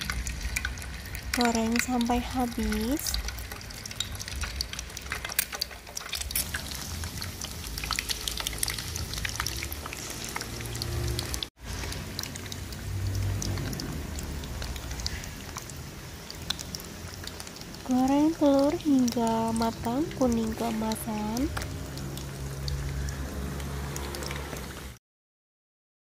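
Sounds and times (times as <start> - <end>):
eggs sizzling in oil: 0.0 - 25.0.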